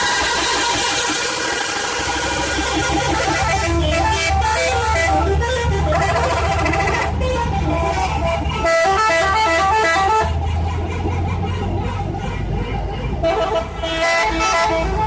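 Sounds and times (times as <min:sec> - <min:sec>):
musical bus horn: 0:00.0 - 0:10.5, 0:11.6 - 0:15.0
bus engine running: 0:00.0 - 0:15.0.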